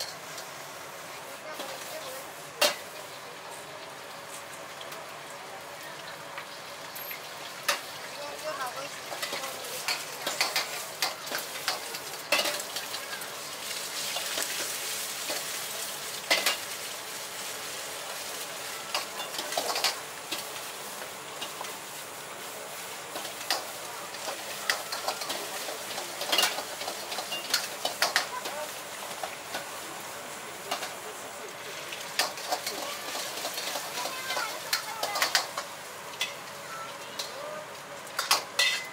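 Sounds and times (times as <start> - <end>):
rice sizzling in a wok: 0.0 - 38.9.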